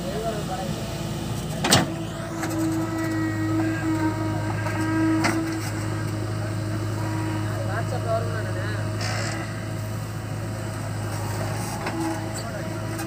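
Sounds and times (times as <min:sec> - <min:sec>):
diesel engine running under load: 0:00.0 - 0:13.0
high steady whine: 0:00.0 - 0:13.0.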